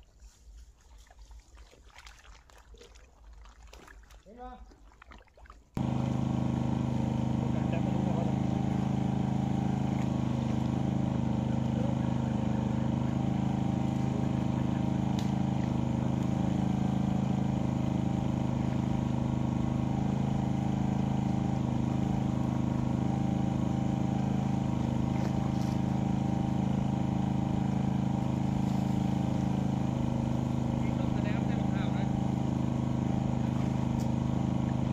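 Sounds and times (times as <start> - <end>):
small engine driving water pump: 0.0 - 34.9.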